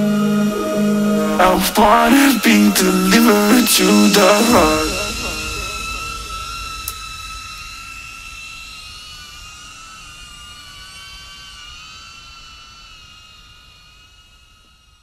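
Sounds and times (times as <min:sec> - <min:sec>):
drone propellers whining: 0:00.0 - 0:13.8.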